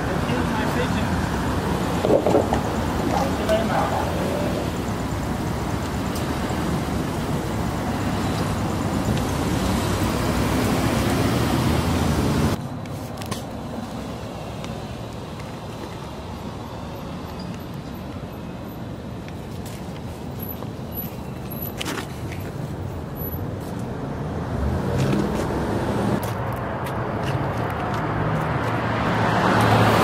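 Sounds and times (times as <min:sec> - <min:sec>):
cars passing: 0:00.0 - 0:30.0
distant traffic: 0:00.0 - 0:30.0.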